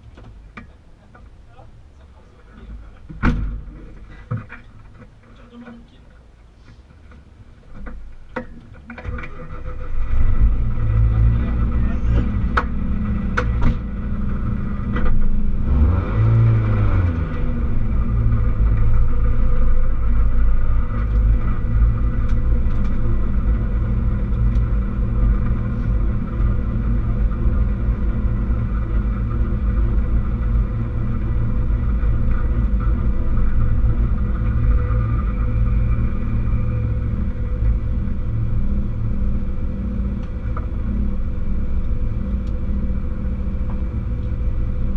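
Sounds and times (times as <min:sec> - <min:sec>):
car engine at low revs: 0:00.0 - 0:44.9.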